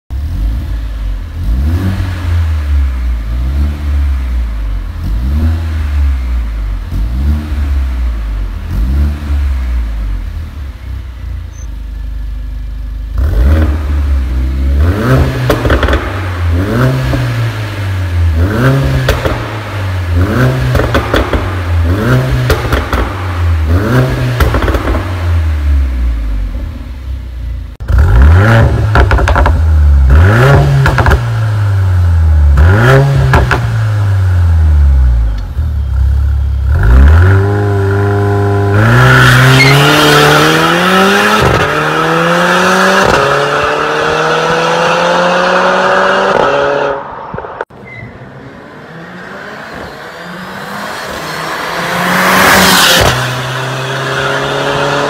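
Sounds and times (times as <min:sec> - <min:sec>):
car engine revving: 0:00.1 - 0:11.2, 0:12.7 - 0:55.0.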